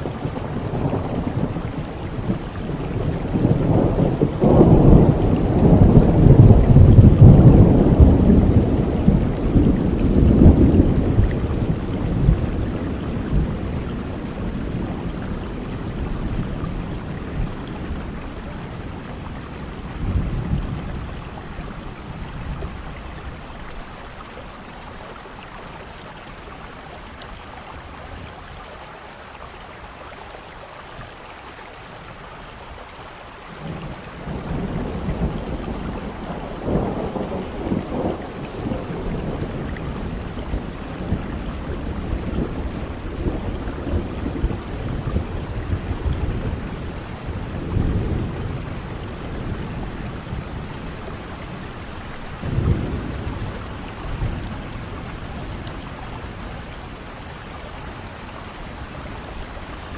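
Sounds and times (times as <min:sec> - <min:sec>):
thunder rumbling low: 0:00.0 - 0:24.5, 0:33.6 - 0:59.9
steady rain falling: 0:00.0 - 0:59.9.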